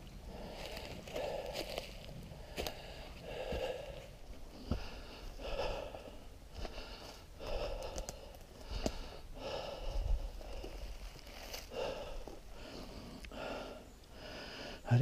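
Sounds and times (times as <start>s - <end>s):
person breathing heavily: 0.2s - 15.0s
footsteps on forest floor: 0.3s - 13.6s.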